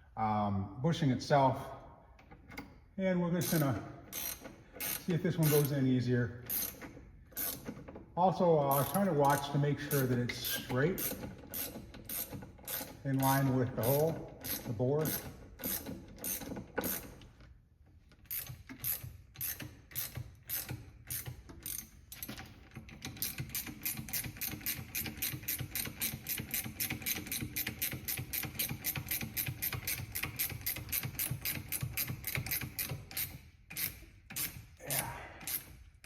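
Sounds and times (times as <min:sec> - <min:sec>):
ratchet wrench clicking: 0:03.4 - 0:05.8, 0:06.4 - 0:08.0, 0:08.7 - 0:17.3, 0:18.1 - 0:36.0.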